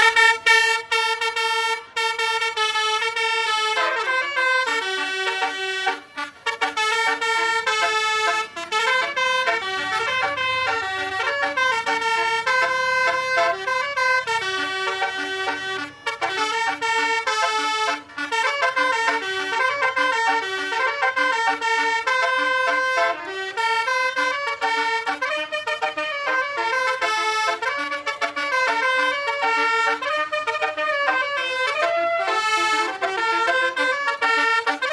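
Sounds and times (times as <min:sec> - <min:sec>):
musical bus horn playing a tune: 0:00.0 - 0:34.9.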